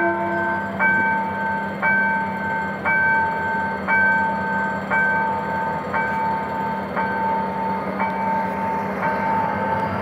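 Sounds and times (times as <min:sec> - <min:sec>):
diesel locomotive running: 0:00.0 - 0:10.0
level crossing warning bell: 0:00.0 - 0:10.0.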